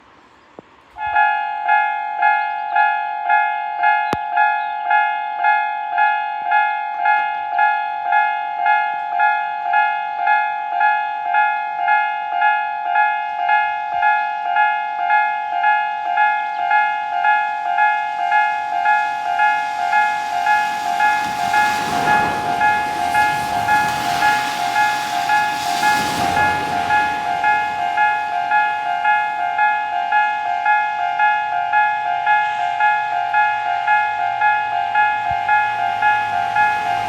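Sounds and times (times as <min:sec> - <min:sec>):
level crossing warning bell: 0:01.0 - 0:37.0.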